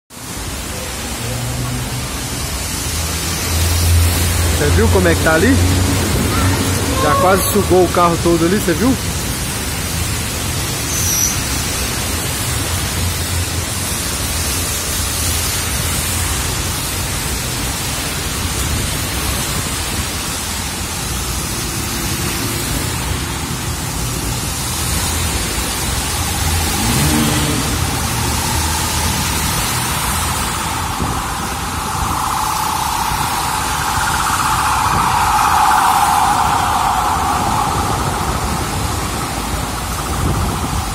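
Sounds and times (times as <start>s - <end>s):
heavy rain: 0.1s - 40.9s
vehicles driving through water: 0.2s - 40.9s.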